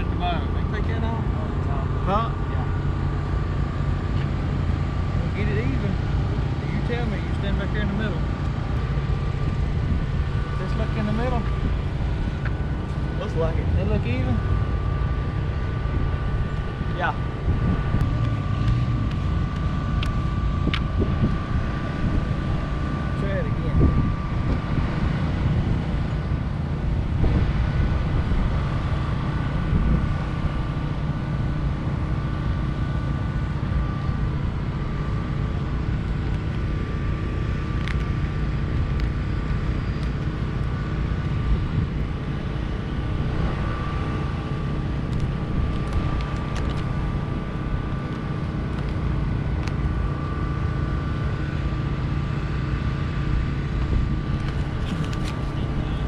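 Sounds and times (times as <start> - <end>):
faint steady whine: 0.0 - 56.0
vehicle engine running: 0.0 - 56.0.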